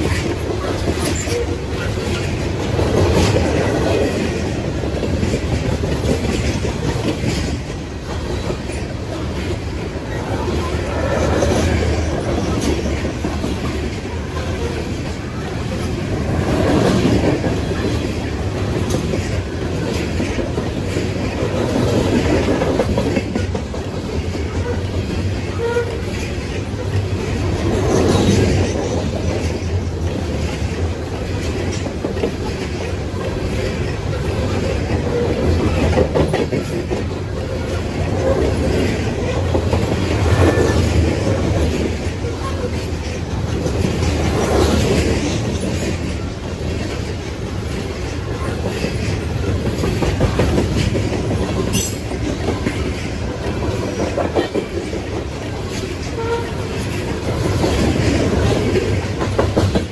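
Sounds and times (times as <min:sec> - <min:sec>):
freight train wheels rumbling on rail: 0:00.0 - 0:59.9
wheels clicking over rail joints: 0:00.0 - 0:59.9.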